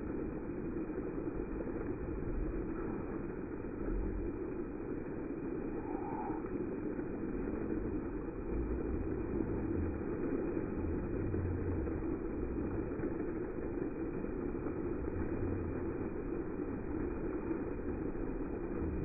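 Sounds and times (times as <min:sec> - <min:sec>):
fountain water splashing on paving: 0:00.0 - 0:19.0
low rumble: 0:00.0 - 0:19.0.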